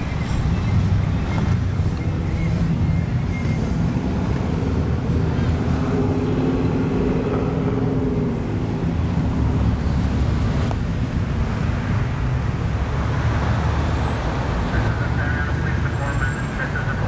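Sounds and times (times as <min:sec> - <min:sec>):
car engines rumbling: 0:00.0 - 0:17.0.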